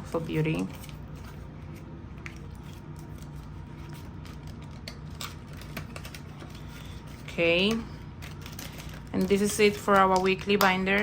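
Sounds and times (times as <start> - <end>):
paper banknotes rustling: 0.0 - 11.0
steady low hum: 0.0 - 11.0.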